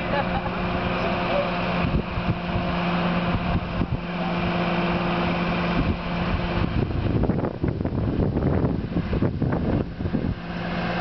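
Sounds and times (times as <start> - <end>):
crane engine humming: 0.0 - 11.0
wind buffeting microphone: 1.5 - 11.0.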